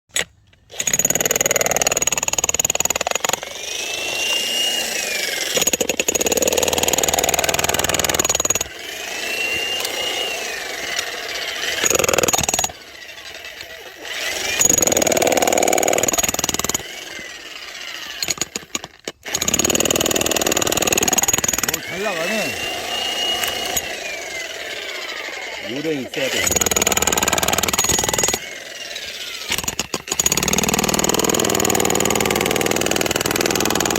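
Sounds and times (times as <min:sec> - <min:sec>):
electric hammer drill hammering wood: 0:00.1 - 0:33.9.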